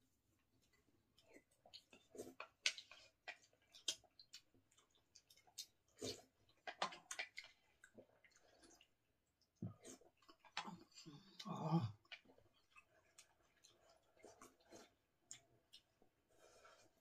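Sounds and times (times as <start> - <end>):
chewing: 0.6 - 17.0
people sipping soup: 0.6 - 17.0.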